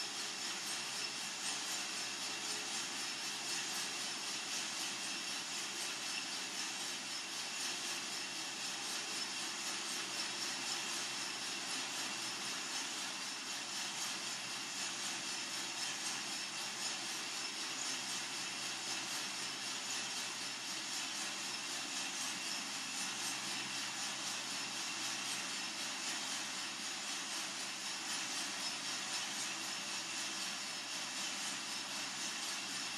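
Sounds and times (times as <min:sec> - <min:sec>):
coffee roaster hissing and whirring: 0:00.0 - 0:32.9.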